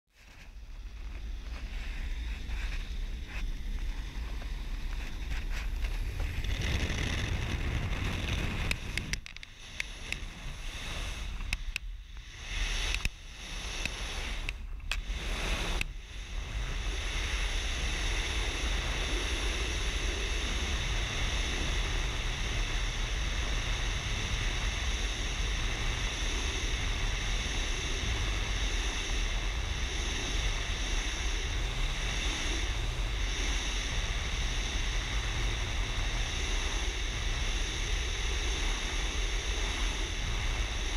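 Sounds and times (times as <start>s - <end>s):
freefall wind rushing: 0.6s - 40.9s.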